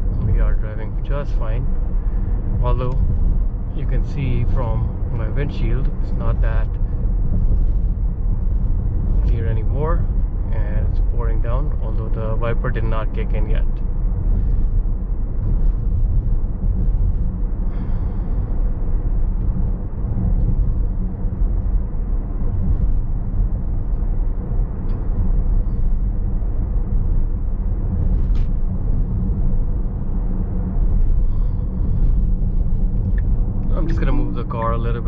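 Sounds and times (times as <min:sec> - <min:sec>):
tyre and road rumble: 0:00.0 - 0:35.0.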